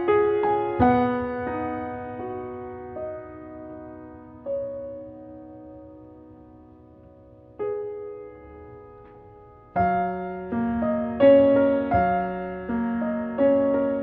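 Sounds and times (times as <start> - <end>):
soft slow piano music: 0.0 - 14.0.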